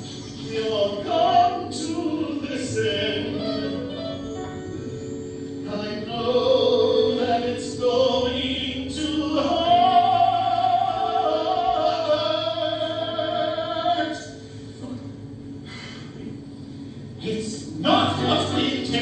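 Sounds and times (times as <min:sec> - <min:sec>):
musical accompaniment: 0:00.0 - 0:16.3, 0:17.2 - 0:19.0
voices singing held notes: 0:00.3 - 0:14.2, 0:17.2 - 0:19.0.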